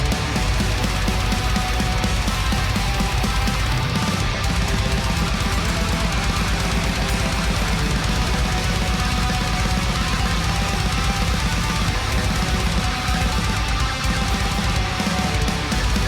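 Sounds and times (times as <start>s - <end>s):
fast dense drumming: 0.0s - 16.0s
heavily distorted guitars: 0.0s - 16.0s.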